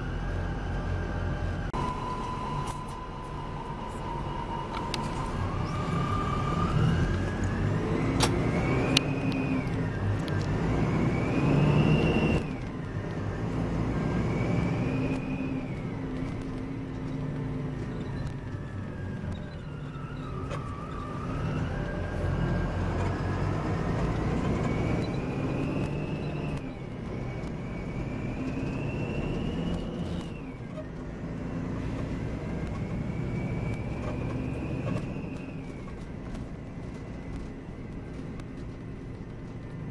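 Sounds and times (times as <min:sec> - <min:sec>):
coach diesel engine pulling away: 0:00.0 - 0:39.9
driveline whine: 0:00.0 - 0:39.9.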